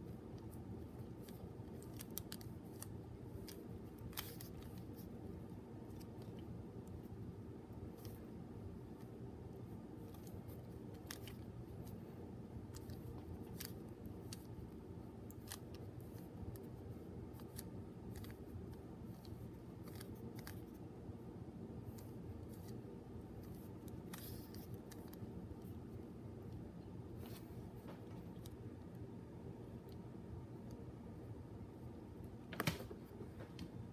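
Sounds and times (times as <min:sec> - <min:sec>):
faint low hum: 0:00.0 - 0:33.9.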